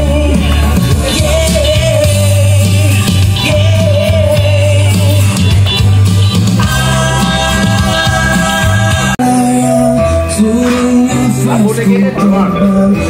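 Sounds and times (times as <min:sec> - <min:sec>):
person singing: 0:00.0 - 0:05.7, 0:06.6 - 0:13.0
heavy bass line: 0:00.0 - 0:13.0.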